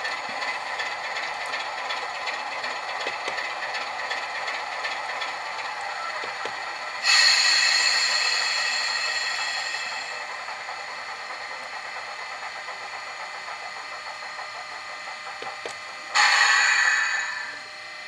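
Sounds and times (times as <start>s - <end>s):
diesel engine sound through small speaker: 0.0s - 18.0s.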